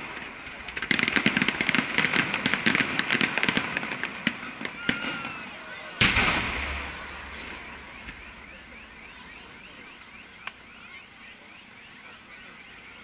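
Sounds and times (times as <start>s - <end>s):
distant firework crack: 0.0s - 10.8s.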